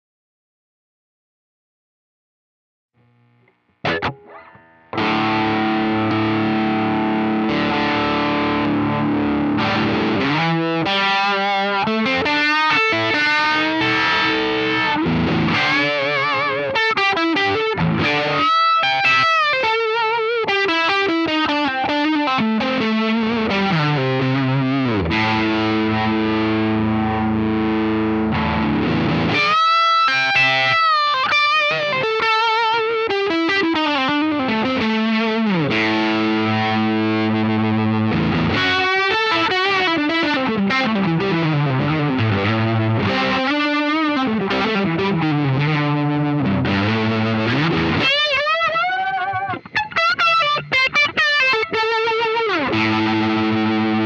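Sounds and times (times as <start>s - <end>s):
overdriven electric guitar with phaser: 3.0s - 54.0s.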